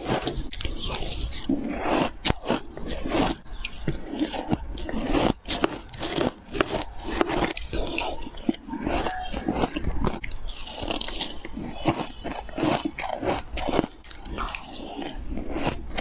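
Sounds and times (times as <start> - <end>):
ice crunching between teeth: 0.0 - 16.0.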